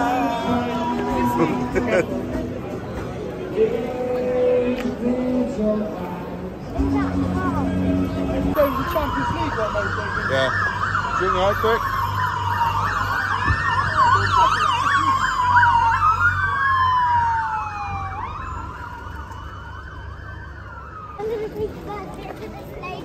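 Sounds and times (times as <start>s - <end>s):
emergency vehicle sirens wailing: 0.0s - 21.8s.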